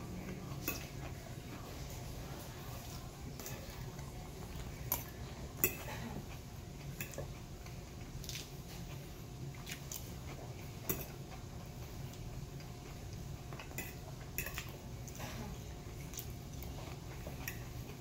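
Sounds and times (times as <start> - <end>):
chewing: 0.2 - 18.0.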